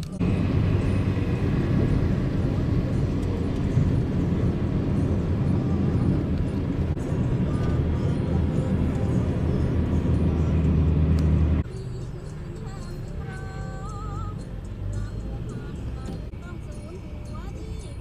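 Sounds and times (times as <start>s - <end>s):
highway road noise: 0.0s - 18.0s
vehicle engine rumble: 0.0s - 18.0s.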